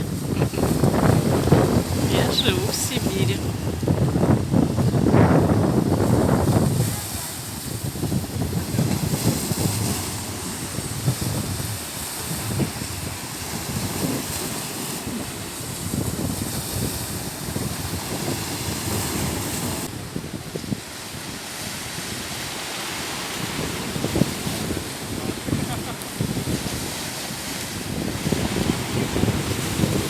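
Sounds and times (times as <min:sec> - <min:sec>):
wind buffeting microphone: 0:00.0 - 0:22.6, 0:23.3 - 0:30.0
surf washing on shore: 0:00.0 - 0:30.0.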